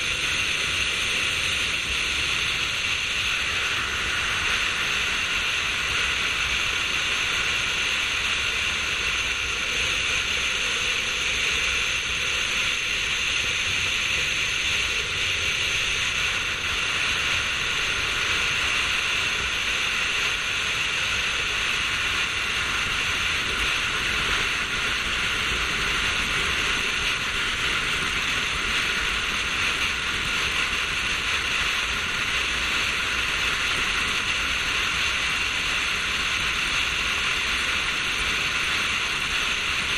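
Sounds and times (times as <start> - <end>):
wind and road noise rushing: 0.0 - 39.9.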